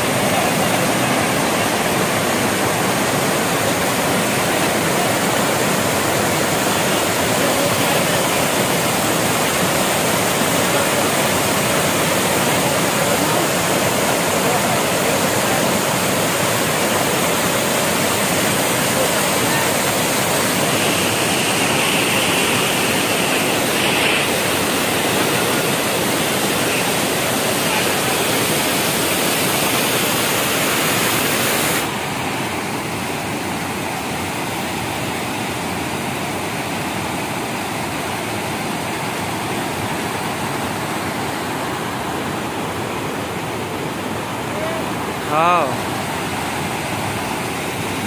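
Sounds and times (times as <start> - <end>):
waterfall rushing over rocks: 0.0 - 48.0.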